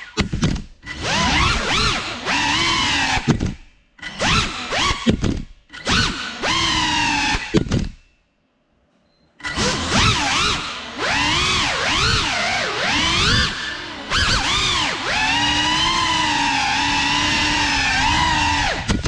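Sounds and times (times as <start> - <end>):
drone motors whining: 0.8 - 8.0, 9.4 - 19.0.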